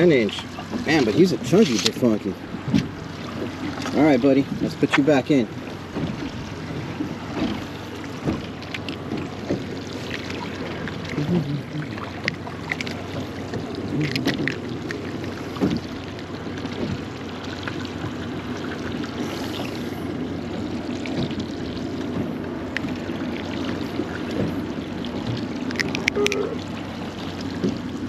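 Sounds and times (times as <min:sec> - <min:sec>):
water sloshing against boat hull: 0:00.0 - 0:28.0.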